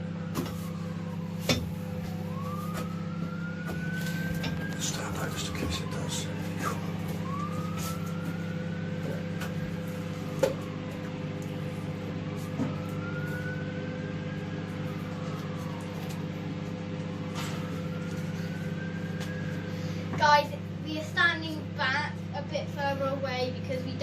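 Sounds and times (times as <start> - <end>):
microwave oven humming: 0.0 - 24.0.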